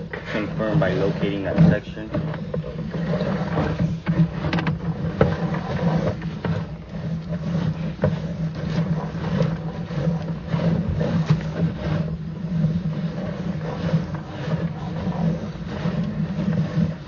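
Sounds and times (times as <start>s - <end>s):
push rod knocking and scraping in pipe: 0.0s - 17.0s
steady low hum: 0.0s - 17.0s.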